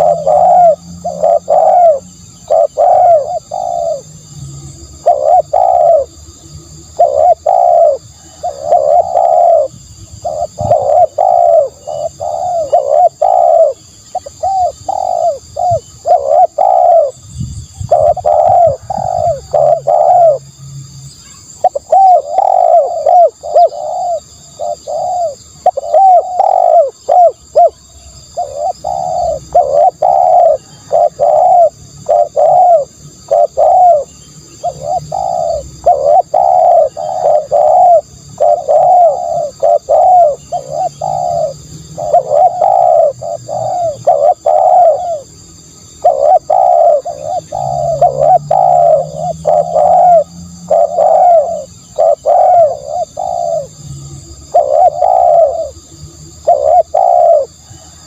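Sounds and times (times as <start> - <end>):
dove cooing: 0.0 - 20.6, 21.3 - 53.8, 54.4 - 58.0.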